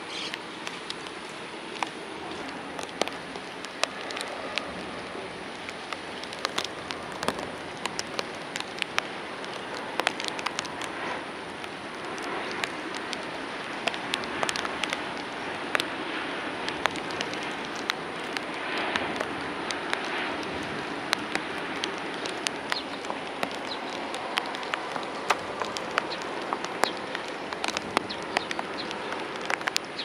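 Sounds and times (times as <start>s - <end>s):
rain hissing: 0.0s - 30.0s
raindrops ticking close by: 0.0s - 30.0s.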